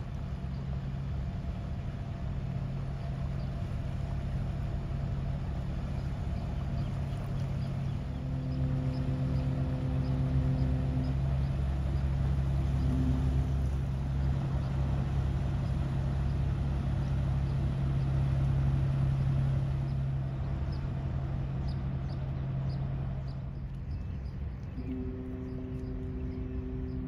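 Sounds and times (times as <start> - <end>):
engine rumble with deep throb: 0.0 - 27.0
higher humming tone: 0.0 - 27.0.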